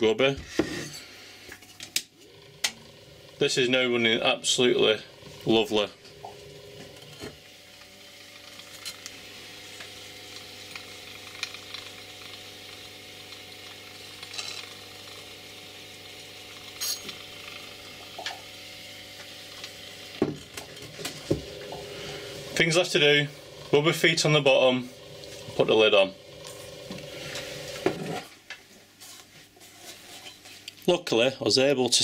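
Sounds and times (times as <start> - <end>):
turntable motor humming: 2.1 - 28.4.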